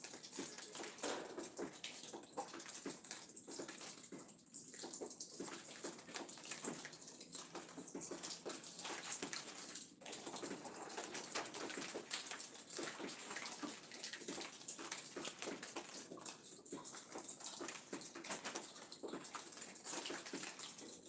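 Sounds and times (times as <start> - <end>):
rain pattering on leaves and gravel: 0.0 - 21.0
water drips and taps: 0.0 - 21.0.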